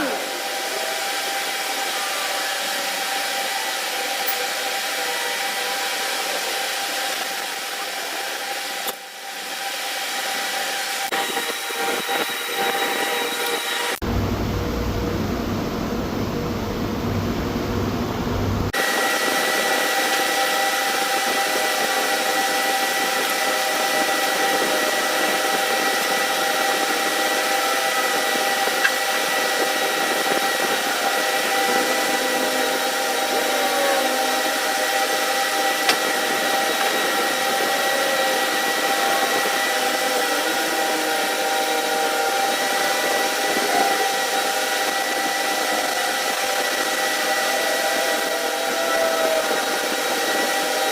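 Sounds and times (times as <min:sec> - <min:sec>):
machine whining: 0:00.0 - 0:50.9.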